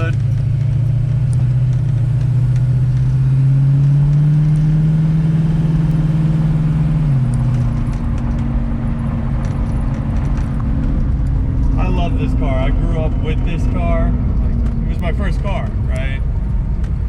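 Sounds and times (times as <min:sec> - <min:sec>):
car engine drone from cabin: 0:00.0 - 0:17.0.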